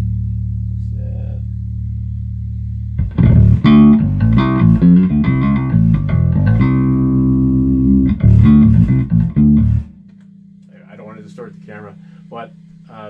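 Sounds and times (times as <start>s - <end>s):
electric bass notes: 0.0s - 13.0s.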